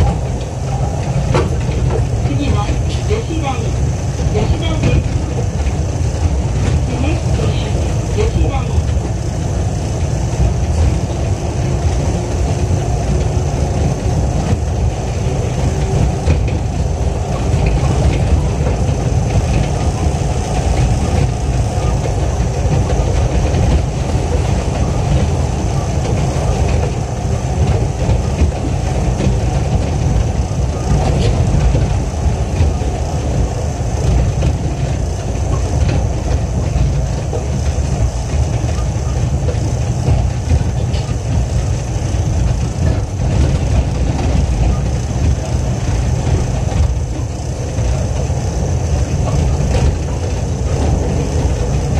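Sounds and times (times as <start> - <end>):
transit car low rumble: 0.0 - 51.9.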